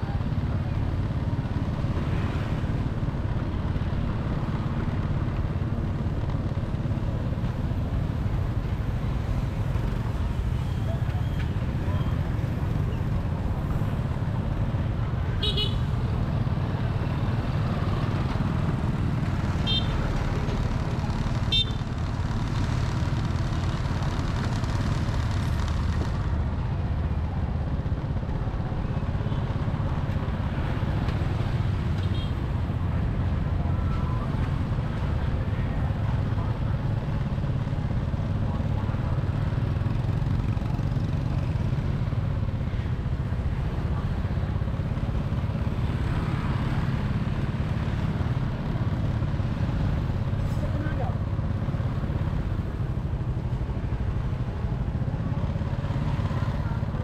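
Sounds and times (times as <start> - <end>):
vehicle driving rumble: 0.0 - 57.0.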